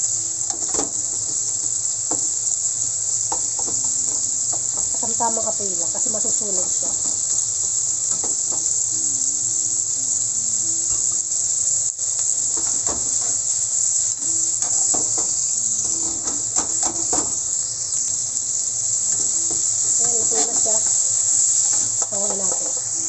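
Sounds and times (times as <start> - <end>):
shrimp sizzling in oil: 0.0 - 23.0.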